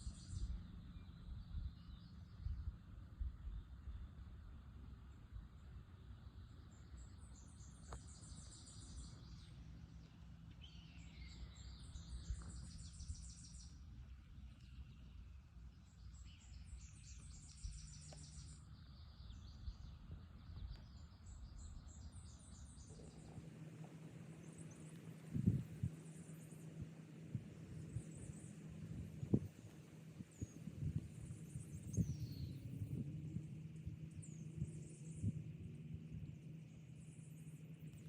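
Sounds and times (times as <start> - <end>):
low steady rumble: 0.0 - 38.0
songbirds trilling: 5.1 - 38.0.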